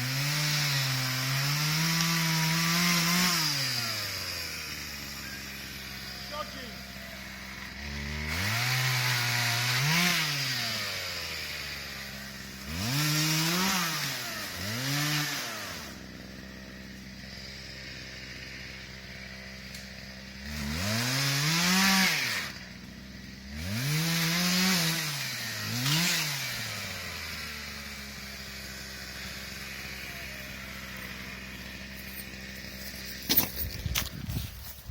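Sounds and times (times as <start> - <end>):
chainsaw idling and revving: 0.0 - 34.9.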